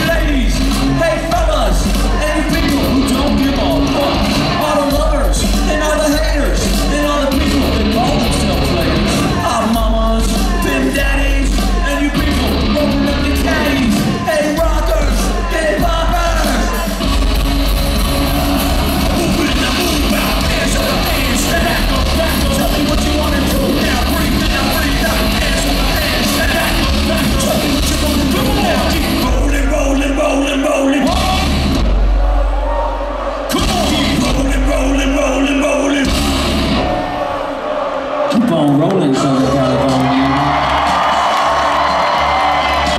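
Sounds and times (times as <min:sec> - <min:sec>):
person rapping and shouting: 0:00.0 - 0:17.4, 0:18.2 - 0:41.3
live rap-metal band: 0:00.0 - 0:42.9.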